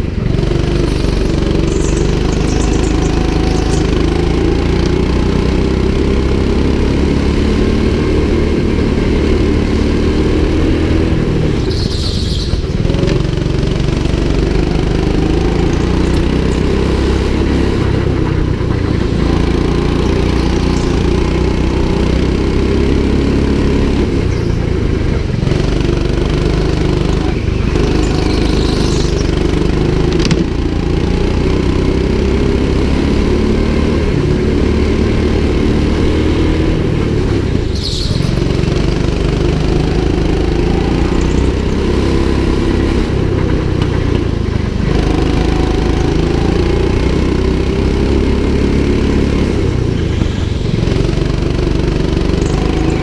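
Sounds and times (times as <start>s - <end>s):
go-kart engine running hard: 0.0s - 53.0s.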